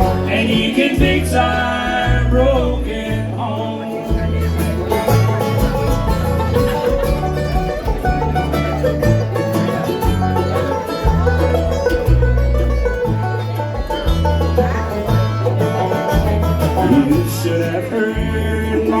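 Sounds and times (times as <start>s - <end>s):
bass line: 0.0s - 19.0s
fast banjo picking: 0.0s - 19.0s
guitar: 0.0s - 19.0s.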